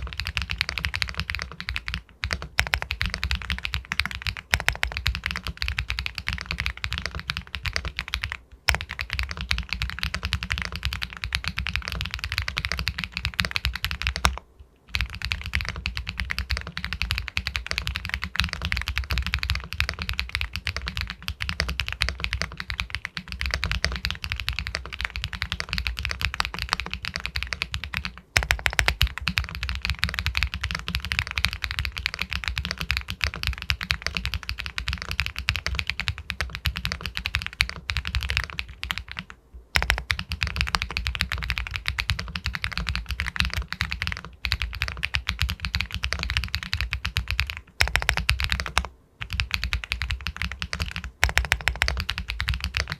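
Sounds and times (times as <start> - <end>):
fast mechanical keyboard typing: 0.0 - 52.9.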